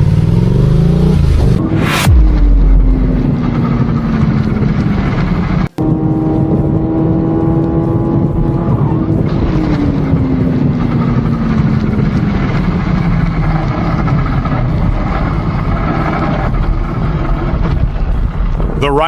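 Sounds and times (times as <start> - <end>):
vehicle engine passing: 0.0 - 18.2
road noise rumble: 0.0 - 19.0.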